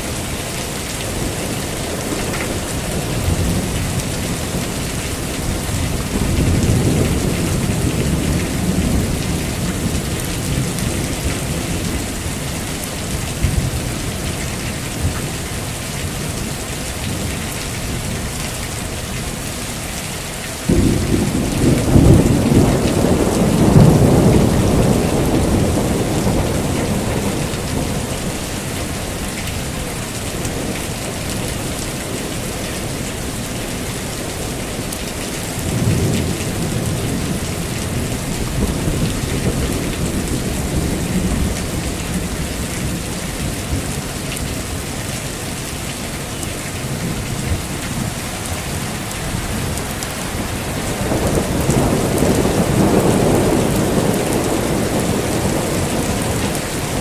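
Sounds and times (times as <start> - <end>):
heavy rain: 0.0 - 57.0
thunder crack and rumble: 1.0 - 14.4, 20.7 - 33.4, 34.2 - 44.9, 46.8 - 57.0.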